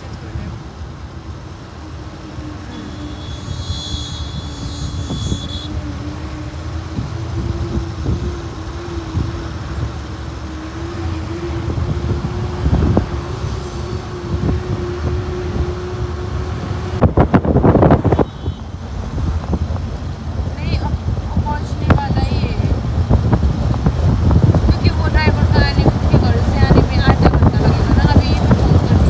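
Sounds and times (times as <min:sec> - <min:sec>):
vehicle rumble from inside: 0:00.0 - 0:29.0.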